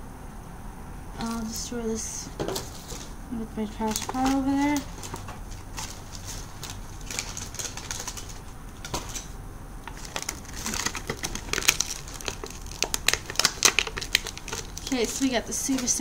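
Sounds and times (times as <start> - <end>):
packaging crinkling: 2.4 - 16.0.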